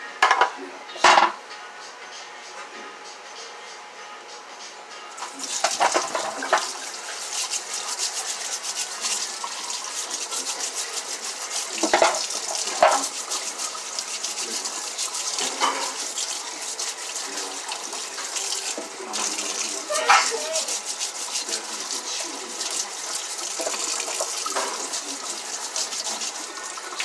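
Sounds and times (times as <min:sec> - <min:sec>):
brush scrubbing: 0:05.2 - 0:27.0
tap water running into sink: 0:05.2 - 0:27.0.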